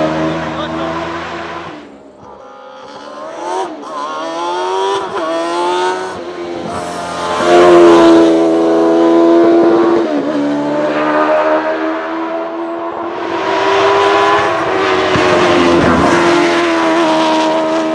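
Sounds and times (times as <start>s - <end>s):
race car engine revving: 0.0s - 17.9s.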